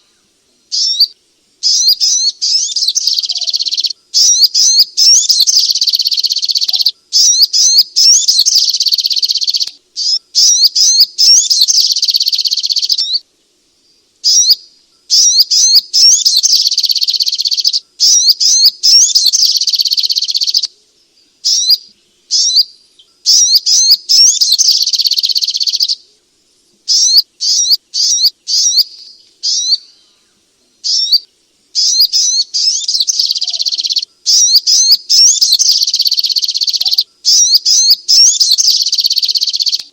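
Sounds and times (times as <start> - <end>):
bird singing high rising notes: 0.7 - 13.2, 14.2 - 20.7, 21.4 - 26.0, 26.9 - 30.2, 30.8 - 39.9.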